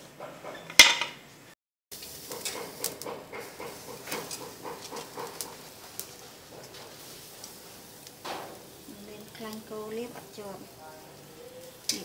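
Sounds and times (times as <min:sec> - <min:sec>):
charcoal crackling pops: 0:01.9 - 0:12.0
meat sizzling on grill: 0:01.9 - 0:12.0.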